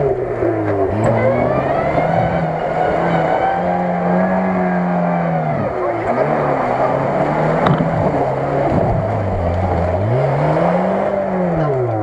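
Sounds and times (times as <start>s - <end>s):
engine revving under load: 0.0s - 12.0s
tyres churning mud: 0.0s - 12.0s.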